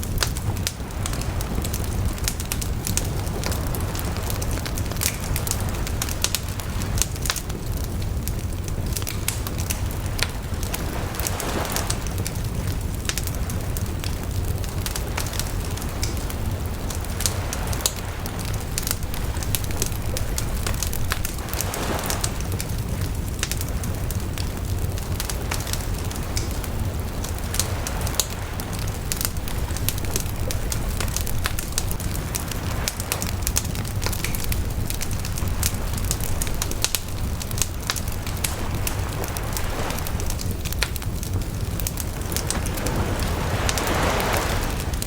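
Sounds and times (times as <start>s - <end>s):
bonfire crackling: 0.0s - 45.0s
burning wood popping: 0.0s - 45.0s.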